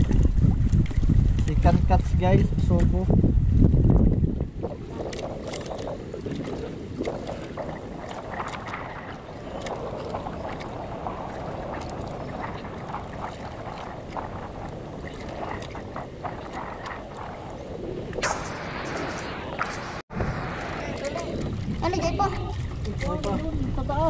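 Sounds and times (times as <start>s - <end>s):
water lapping against boat hull: 0.0s - 18.3s, 20.8s - 24.0s
wind buffeting microphone: 0.0s - 24.0s.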